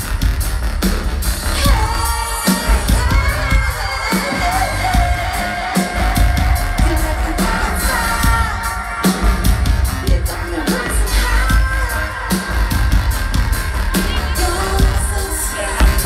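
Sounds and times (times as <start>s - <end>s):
electronic pop band over pa: 0.0s - 16.0s
heavy bass: 0.0s - 16.0s
steady drum beat: 0.0s - 16.0s.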